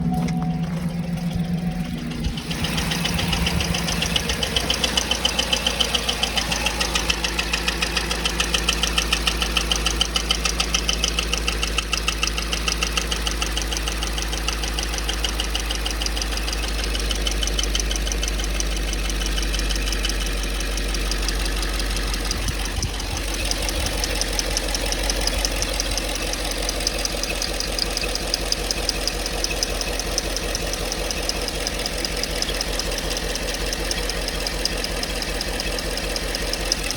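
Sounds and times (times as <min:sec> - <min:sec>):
engine idling: 0:00.0 - 0:36.9
rapid engine tapping: 0:00.0 - 0:36.9.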